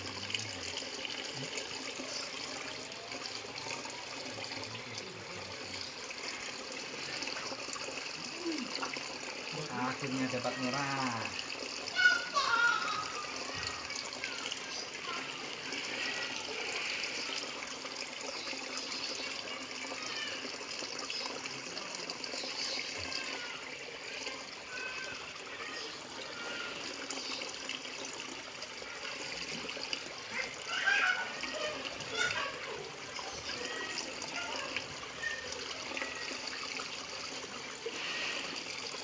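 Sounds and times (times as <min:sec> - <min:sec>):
faint voices: 0:00.0 - 0:18.3, 0:19.3 - 0:39.0
running water trickling and splashing: 0:00.0 - 0:39.0.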